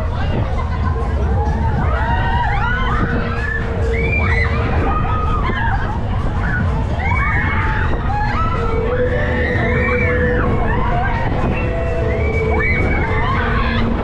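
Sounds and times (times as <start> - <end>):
wind buffeting microphone: 0.0 - 14.0
riders shrieking and whooping: 1.3 - 14.0.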